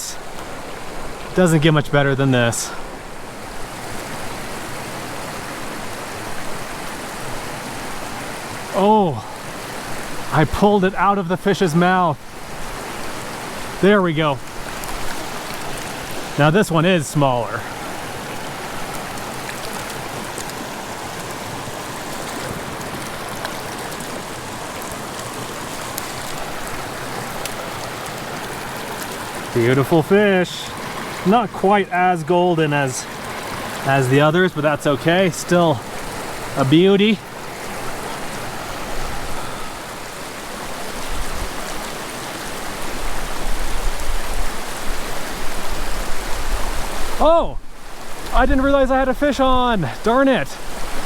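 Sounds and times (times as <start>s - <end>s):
creek water running: 0.0s - 51.0s.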